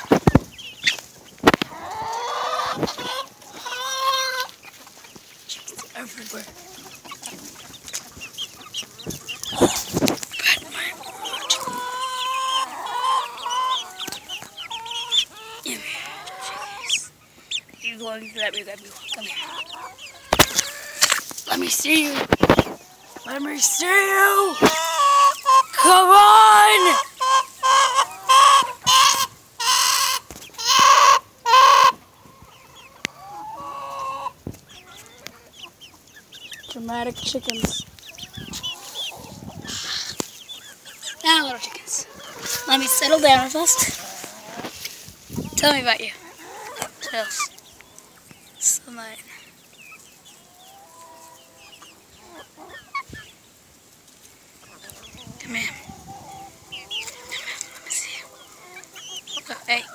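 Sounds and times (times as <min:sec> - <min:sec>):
chickens clucking: 0:00.0 - 0:59.9
chickens squawking: 0:00.0 - 0:59.9.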